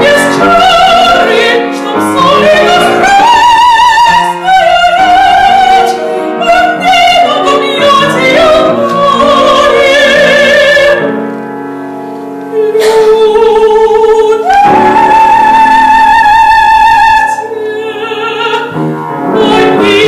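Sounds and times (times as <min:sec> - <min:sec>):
operatic singing with vibrato: 0:00.0 - 0:11.1, 0:12.5 - 0:20.0
piano accompaniment: 0:00.0 - 0:20.0.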